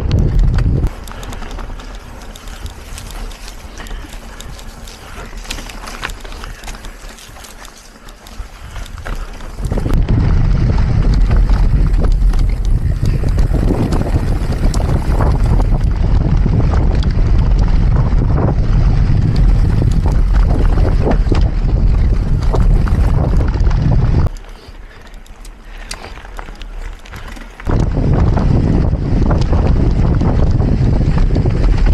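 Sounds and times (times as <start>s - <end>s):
bike rattling clicks and knocks: 0.0s - 31.9s
wind buffeting microphone: 0.0s - 31.9s.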